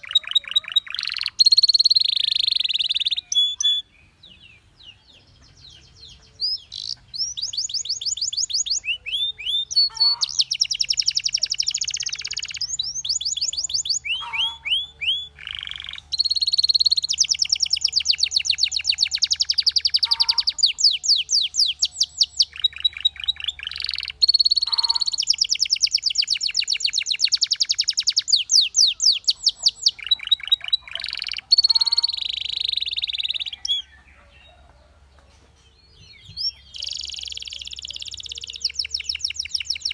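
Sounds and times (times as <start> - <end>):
canary singing fast trills: 0.0 - 34.7, 35.8 - 39.9.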